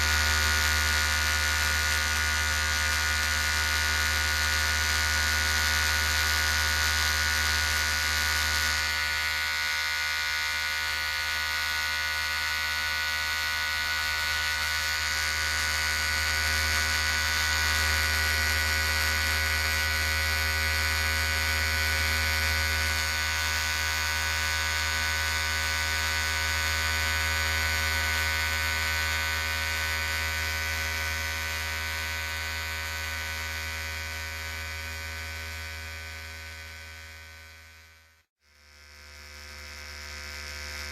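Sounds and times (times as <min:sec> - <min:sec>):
electric hair clippers buzzing: 0:00.0 - 0:40.9.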